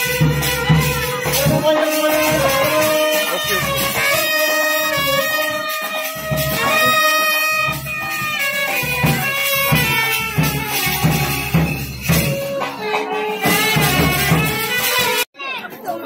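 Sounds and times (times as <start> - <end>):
steady beat: 0.0 - 15.3
wind instrument melody: 0.0 - 15.5.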